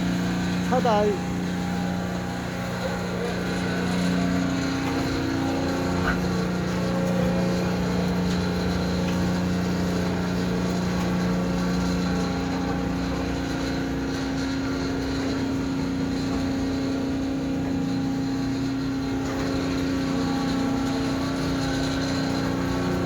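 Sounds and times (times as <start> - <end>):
concrete mixer truck humming: 0.0 - 23.0.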